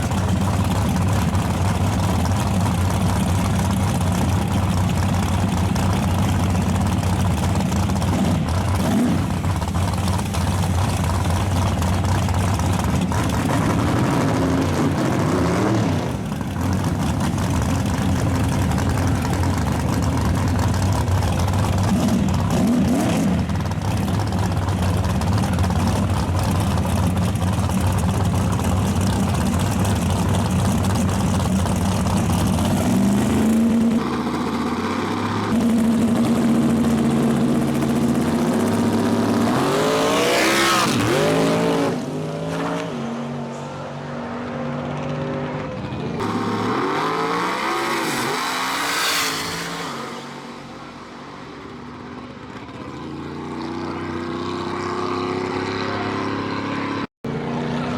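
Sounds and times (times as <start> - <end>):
racing car engines at full throttle: 0.0 - 57.9.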